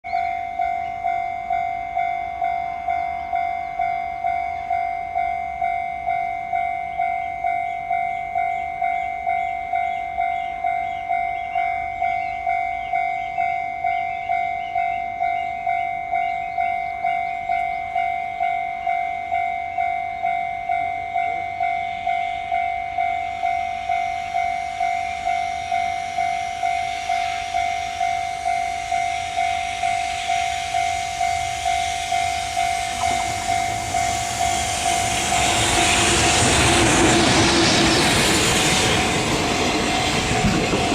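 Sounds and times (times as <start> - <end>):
freight train rushing: 0.1 - 40.9.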